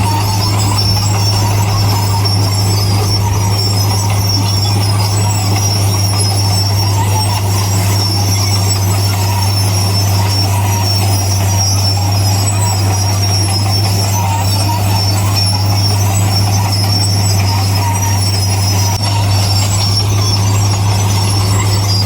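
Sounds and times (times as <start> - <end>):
diesel engine droning: 0.0 - 22.0
steel tracks squealing: 0.0 - 22.0.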